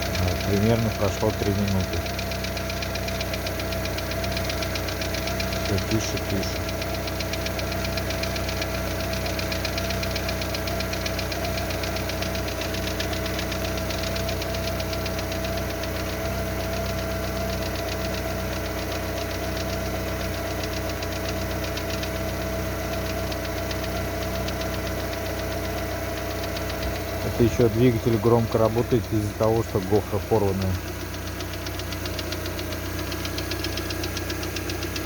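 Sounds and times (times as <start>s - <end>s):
car engine idling: 0.0s - 35.0s
rapid valve ticking knock: 0.0s - 35.0s.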